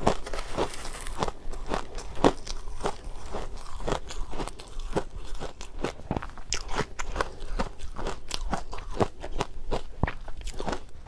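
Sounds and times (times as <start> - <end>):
chewing crunchy shaved ice: 0.0 - 11.0.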